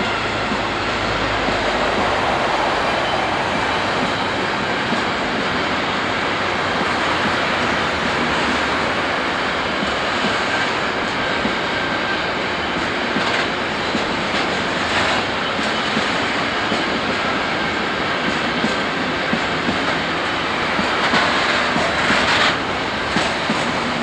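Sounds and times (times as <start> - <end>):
train wheels knocking: 0.0 - 24.0
train wheels on rails: 0.0 - 24.0.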